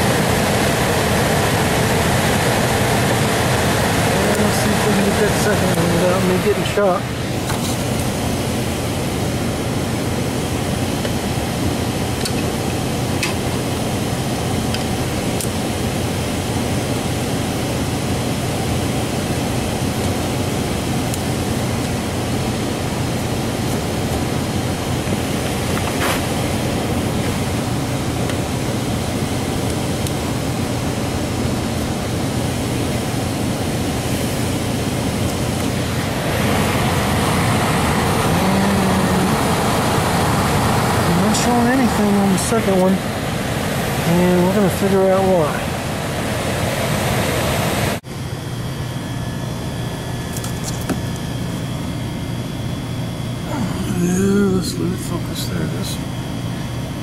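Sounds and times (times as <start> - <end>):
blower rushing air: 0.0 - 57.0.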